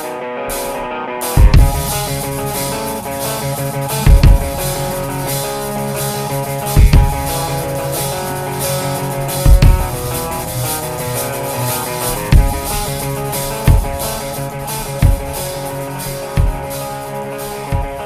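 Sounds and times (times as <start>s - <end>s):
rock music with guitar and drums: 0.0s - 18.0s
heavy bass drum hits: 1.4s - 18.0s.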